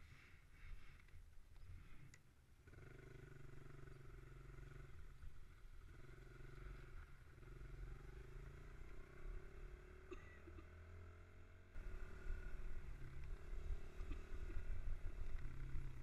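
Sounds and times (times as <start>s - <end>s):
small motorbike engine running: 0.8s - 16.0s.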